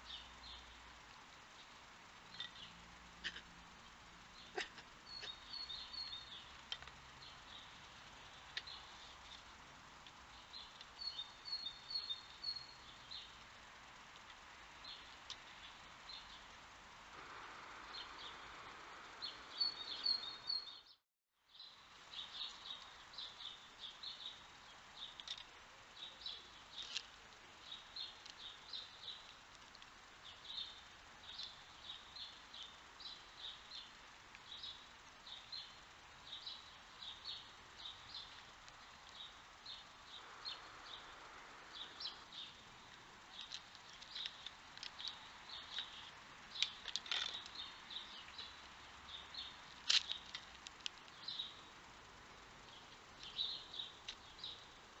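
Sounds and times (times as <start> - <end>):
faint outdoor background hiss: 0.0 - 55.0
small birds chirping: 0.0 - 55.0.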